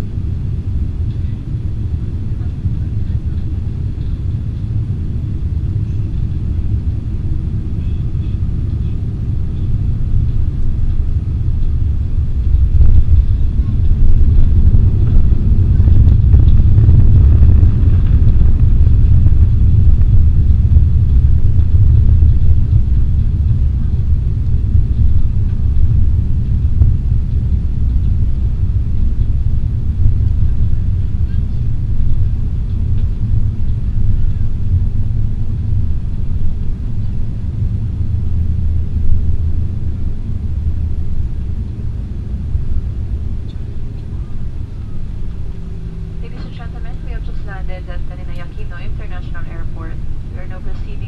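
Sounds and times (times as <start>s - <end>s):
airplane cabin rumble: 0.0s - 51.0s.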